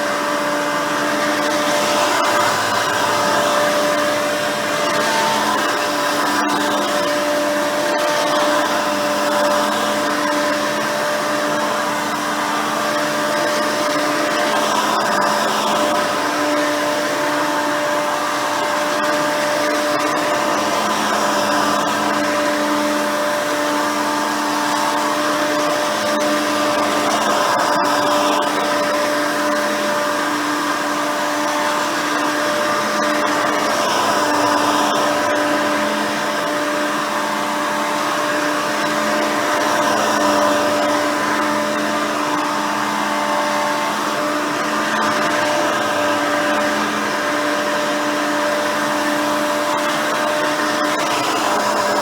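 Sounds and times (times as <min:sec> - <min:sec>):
vacuum cleaner whine: 0:00.0 - 0:52.0.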